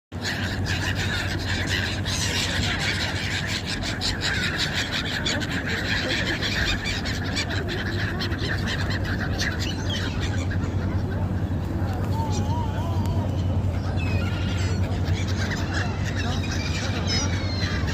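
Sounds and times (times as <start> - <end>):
seagulls calling: 0.2 - 17.9
steady low hum: 0.2 - 17.9.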